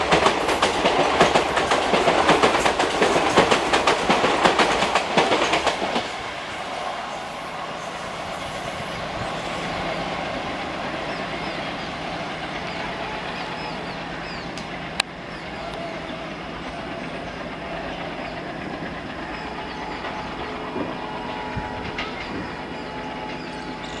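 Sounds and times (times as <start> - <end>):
train rolling rumble: 0.0 - 24.0.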